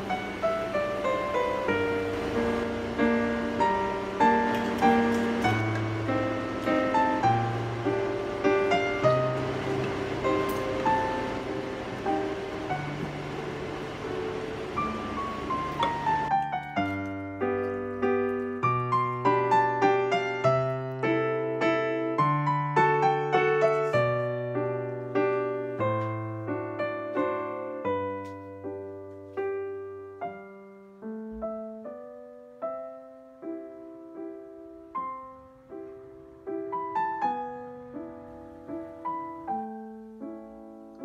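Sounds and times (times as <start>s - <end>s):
piano bass notes: 0.0s - 41.0s
piano melody: 0.0s - 41.0s.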